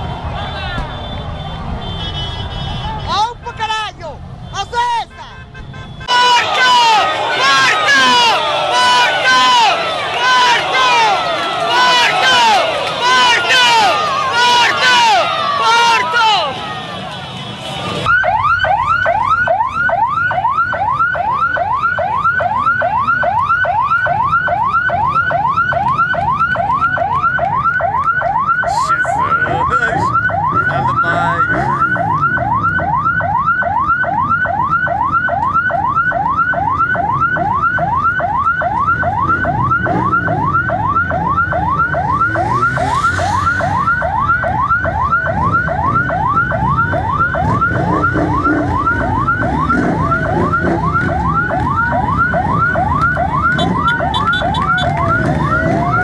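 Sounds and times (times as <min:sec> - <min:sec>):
traffic and crowd rumble: 0:00.0 - 0:56.0
electronic siren yelping: 0:05.9 - 0:16.8, 0:18.0 - 0:56.0.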